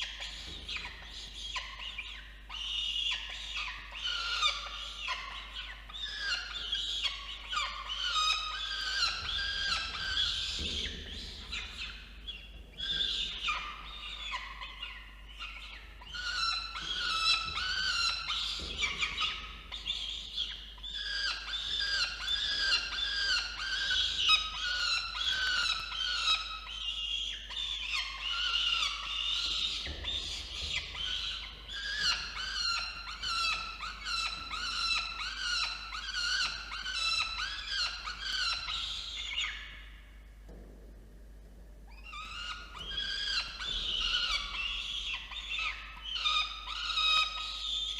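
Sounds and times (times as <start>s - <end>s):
falcon chicks begging calls: 0.0s - 39.7s, 42.0s - 47.9s.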